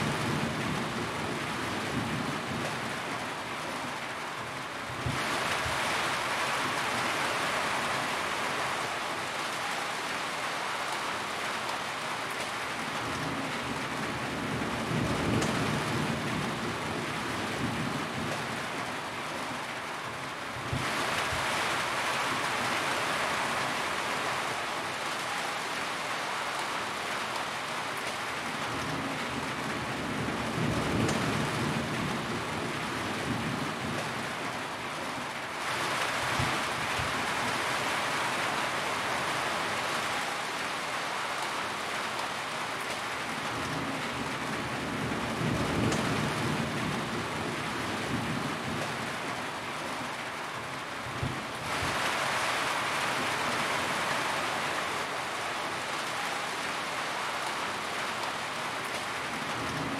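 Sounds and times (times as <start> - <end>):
rain on a metal roof: 0.0 - 59.9.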